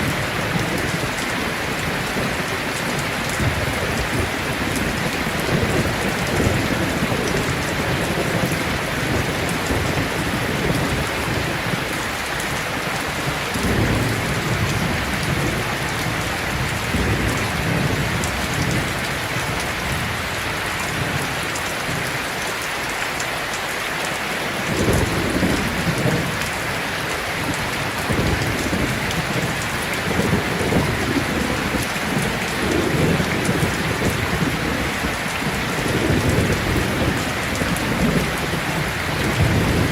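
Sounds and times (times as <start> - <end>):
thunder rumbling: 0.0 - 22.1, 24.6 - 39.9
heavy rain: 0.0 - 39.9.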